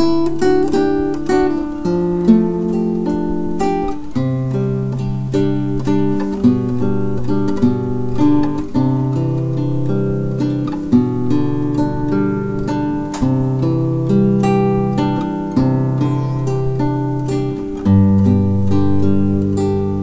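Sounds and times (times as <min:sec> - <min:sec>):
acoustic guitar plucked melody: 0:00.0 - 0:20.0.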